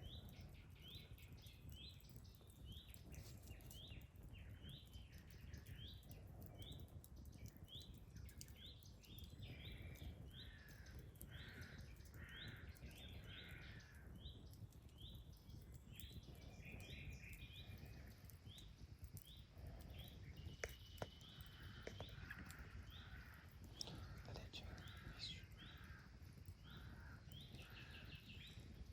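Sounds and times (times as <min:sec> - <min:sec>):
birds calling softly: 0:00.0 - 0:28.9
small bird chirping: 0:00.0 - 0:28.9.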